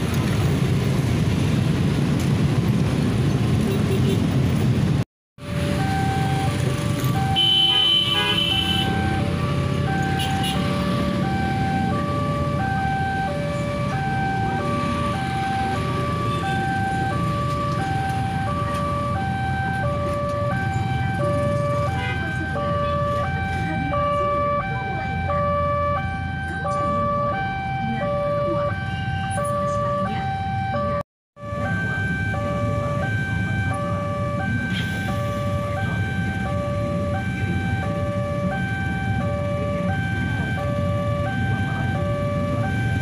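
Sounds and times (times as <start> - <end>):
road traffic rumble: 0.0 - 43.0
level crossing two-tone alarm: 5.5 - 43.0.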